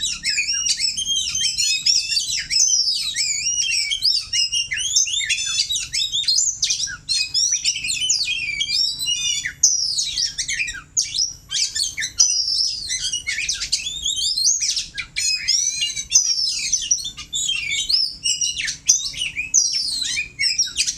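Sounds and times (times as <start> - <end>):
songbird singing whistles and trills: 0.0 - 20.9.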